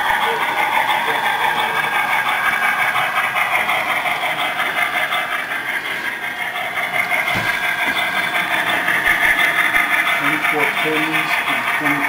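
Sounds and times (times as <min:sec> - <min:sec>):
model train running: 0:00.0 - 0:12.0.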